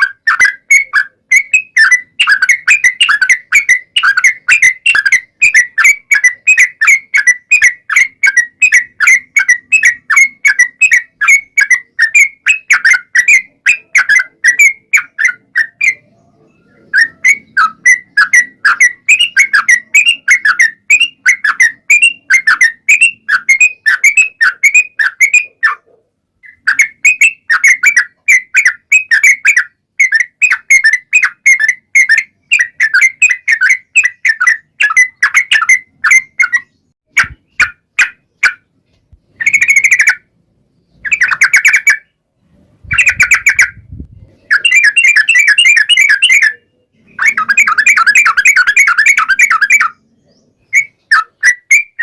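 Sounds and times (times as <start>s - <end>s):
bird singing loud chattering notes: 0.0s - 25.8s, 26.4s - 52.0s.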